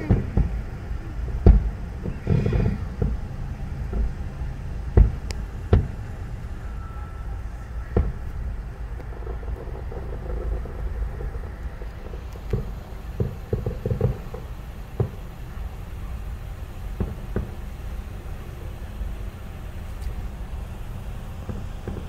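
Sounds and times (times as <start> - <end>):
distant fireworks bursting: 0.0 - 22.0
low traffic rumble: 0.0 - 22.0.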